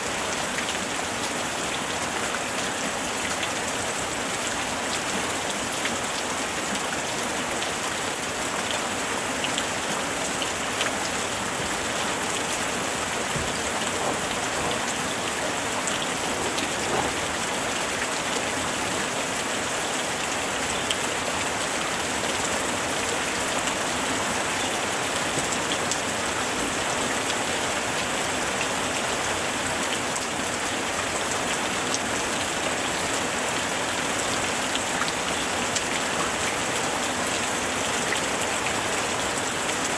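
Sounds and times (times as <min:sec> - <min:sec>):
heavy rain falling: 0:00.0 - 0:39.9
raindrops ticking on surface: 0:00.2 - 0:39.9.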